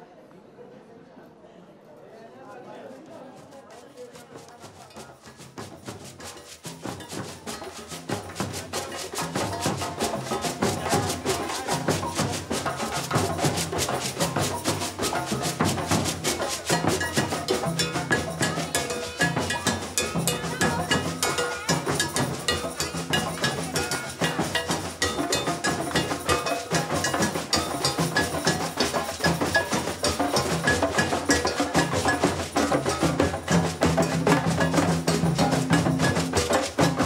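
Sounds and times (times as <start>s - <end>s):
drums: 4.0s - 37.0s.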